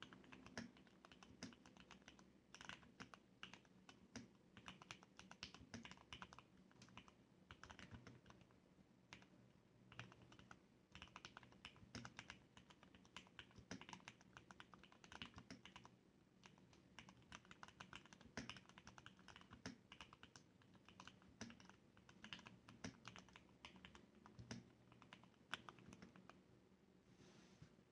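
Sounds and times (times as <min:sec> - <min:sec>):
mechanical keyboard typing: 0:00.0 - 0:08.5, 0:09.9 - 0:26.4.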